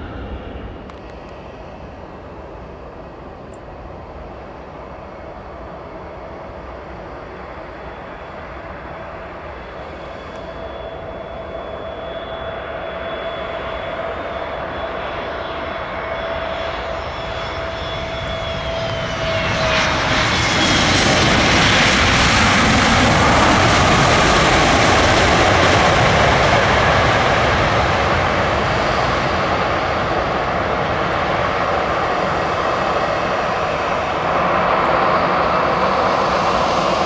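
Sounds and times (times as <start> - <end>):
jet engine whine: 0.0 - 37.0
jet roar: 0.0 - 37.0.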